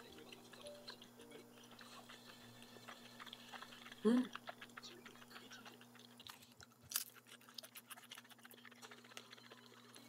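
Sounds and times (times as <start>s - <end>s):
person chewing crunchy food: 0.1s - 10.0s.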